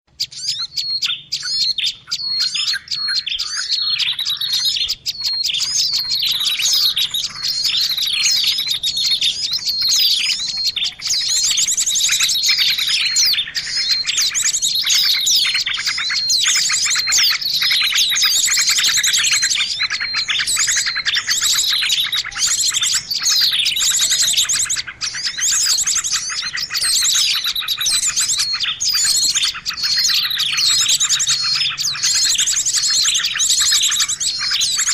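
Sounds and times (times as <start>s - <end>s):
many small birds chirping: 0.1s - 34.9s.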